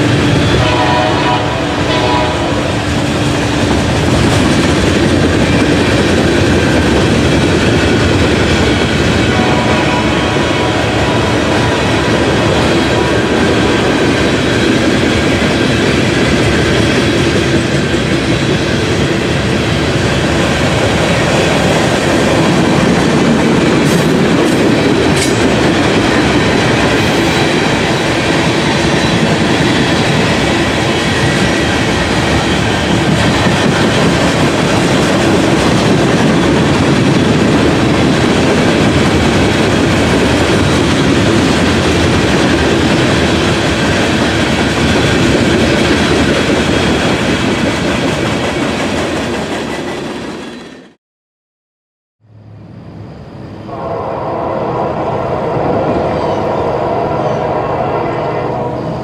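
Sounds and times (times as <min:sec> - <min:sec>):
freight train rumbling past: 0:00.0 - 0:51.0, 0:52.2 - 0:59.0.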